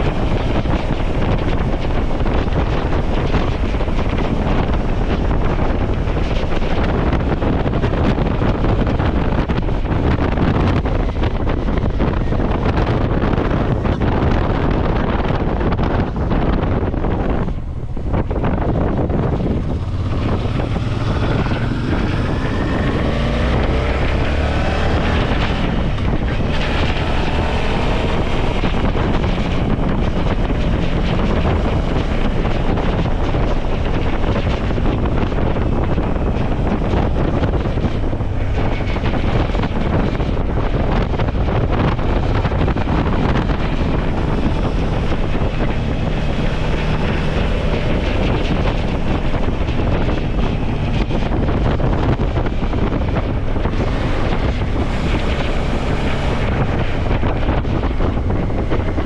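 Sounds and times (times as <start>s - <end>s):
motorcycle engine accelerating: 0.0s - 59.0s
wind noise on microphone: 0.0s - 59.0s.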